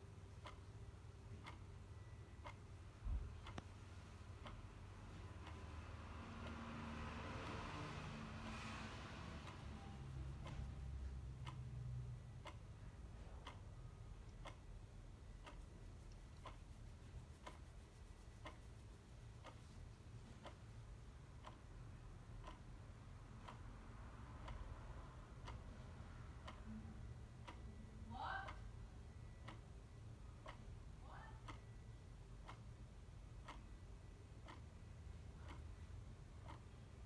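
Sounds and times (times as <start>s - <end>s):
clock ticking: 0.0s - 37.0s.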